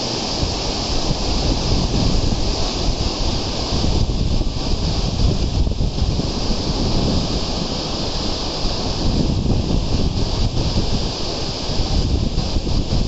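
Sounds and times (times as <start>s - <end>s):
stream rushing over rocks: 0.0s - 13.0s
wind buffeting microphone: 0.0s - 13.0s.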